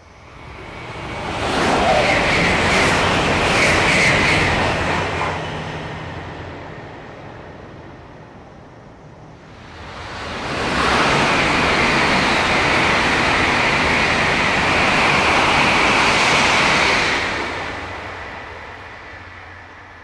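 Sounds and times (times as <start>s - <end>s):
high-speed train passing: 0.0s - 20.0s.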